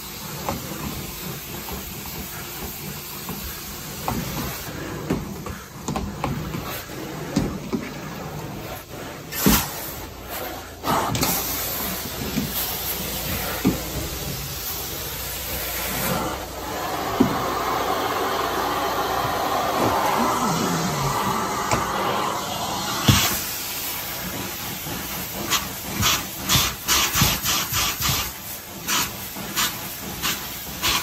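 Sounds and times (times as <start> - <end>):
carpet cleaner spray and suction: 0.0 - 31.0.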